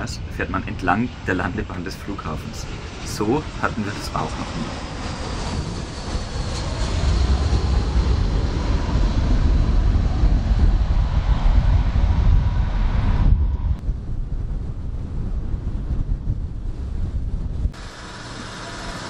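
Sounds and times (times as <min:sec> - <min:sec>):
high whine falling in pitch: 0:00.0 - 0:19.0
jet engines rumbling: 0:00.0 - 0:19.0.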